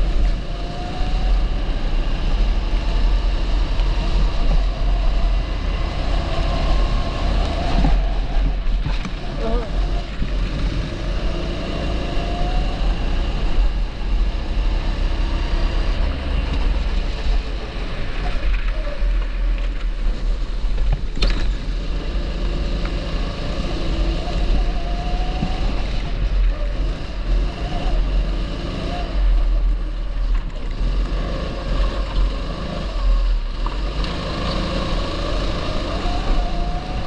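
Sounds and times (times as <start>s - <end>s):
kart engine revving: 0.0s - 37.0s.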